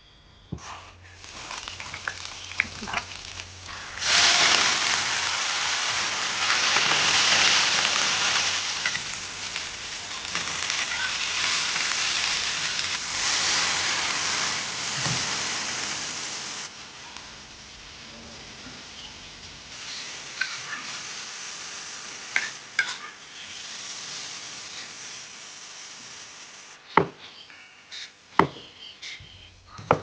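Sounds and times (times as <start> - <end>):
food sizzling in a pan: 0.6 - 27.0.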